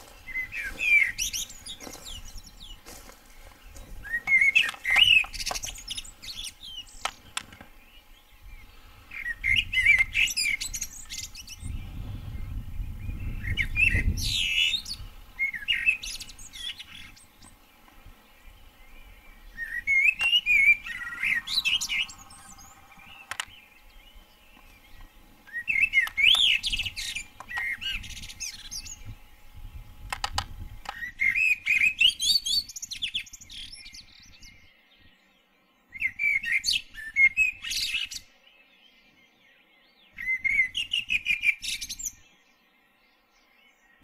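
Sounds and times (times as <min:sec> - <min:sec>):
songbird chirping: 0:00.0 - 0:44.0.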